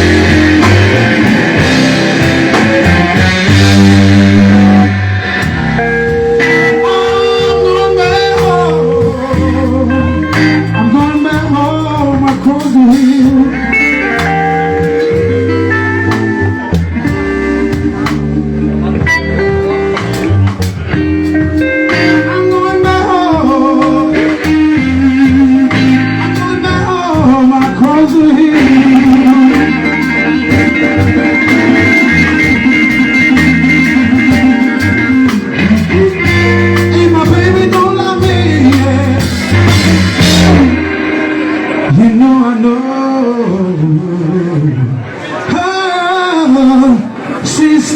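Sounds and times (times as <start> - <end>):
electric guitar bending notes: 0.0 - 45.5
live blues band playing: 0.0 - 47.9.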